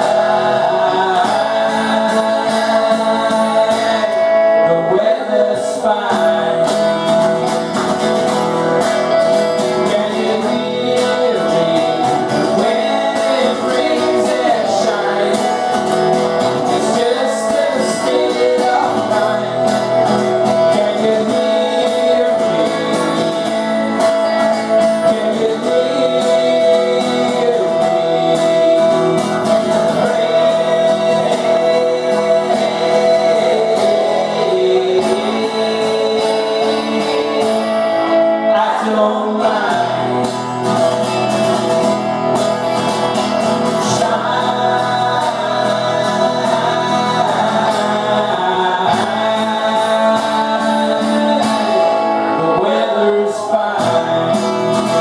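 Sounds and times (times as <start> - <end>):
man singing: 0.0 - 55.0
strummed acoustic guitars: 0.0 - 55.0.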